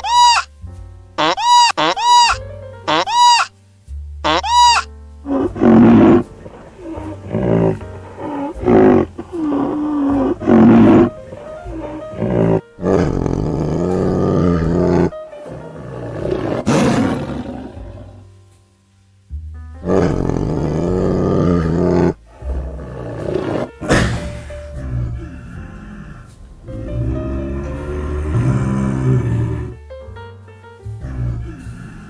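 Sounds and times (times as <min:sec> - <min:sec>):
animal calls: 0:00.0 - 0:00.5, 0:01.2 - 0:03.5, 0:04.2 - 0:18.2, 0:19.8 - 0:29.8.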